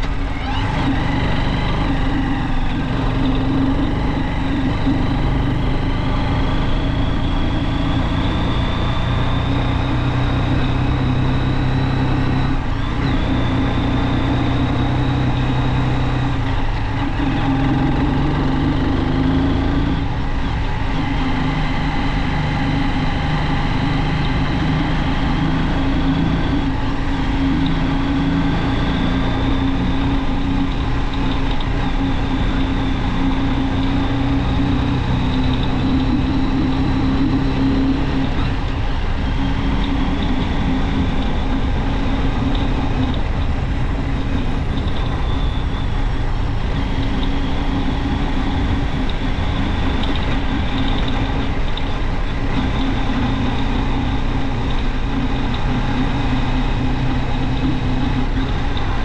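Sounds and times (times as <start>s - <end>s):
motorcycle engine while riding: 0.0s - 59.0s.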